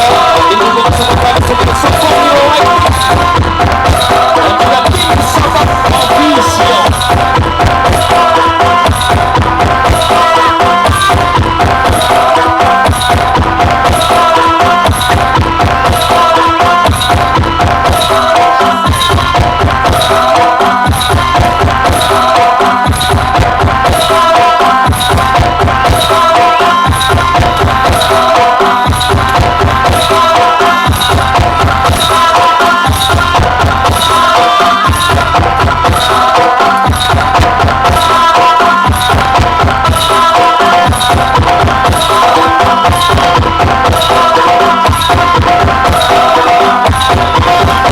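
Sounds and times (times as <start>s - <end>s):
loud music with heavy bass: 0.0s - 47.9s
steady drum beat: 0.0s - 47.9s.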